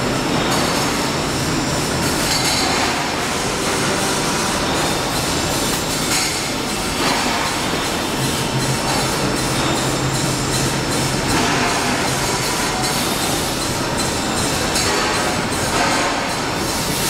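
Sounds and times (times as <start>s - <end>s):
loud metallic machine noise: 0.0s - 17.0s.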